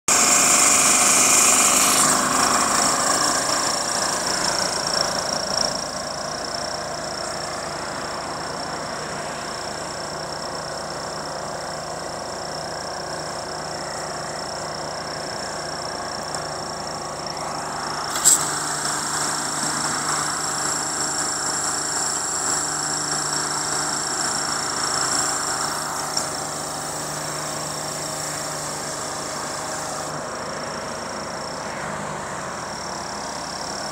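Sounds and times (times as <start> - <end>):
pressure washer engine running: 0.0 - 33.9
high-pitched whine: 0.1 - 33.9.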